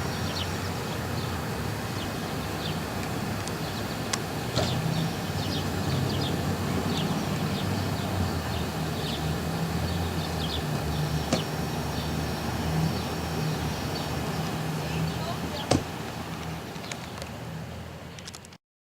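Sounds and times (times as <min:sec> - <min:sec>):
low engine rumble: 0:00.0 - 0:18.6.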